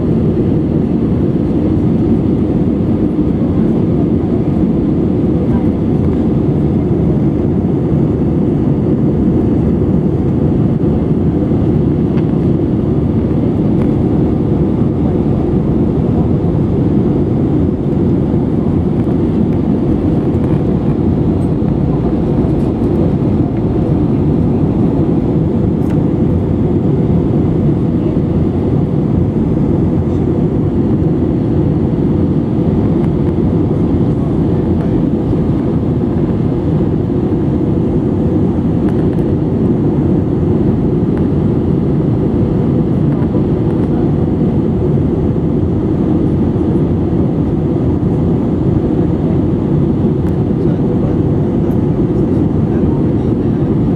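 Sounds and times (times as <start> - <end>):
jet engines and rushing air: 0.0 - 53.9.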